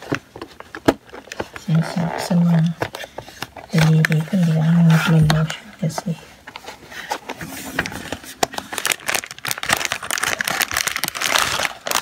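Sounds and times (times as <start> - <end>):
crinkling glossy wrapping: 0.0 - 12.0.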